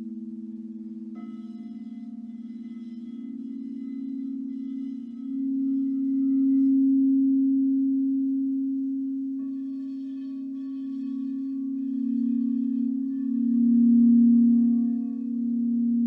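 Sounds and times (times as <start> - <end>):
singing bowl struck ringing: 0.0 - 7.3, 9.4 - 15.9
low singing bowl tone: 0.0 - 16.0.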